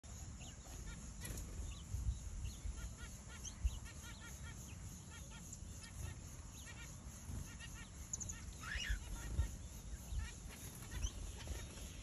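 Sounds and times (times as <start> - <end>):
quail chicks peeping: 0.0 - 12.0.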